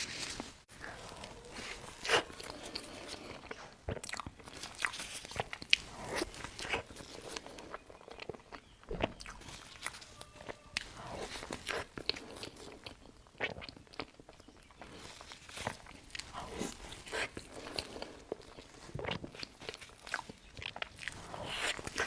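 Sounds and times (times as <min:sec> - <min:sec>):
person chewing cake: 0:00.0 - 0:22.0.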